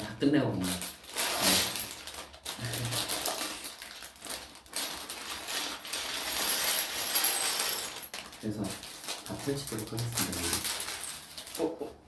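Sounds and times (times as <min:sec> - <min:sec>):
plastic packaging crinkling: 0:00.5 - 0:11.8.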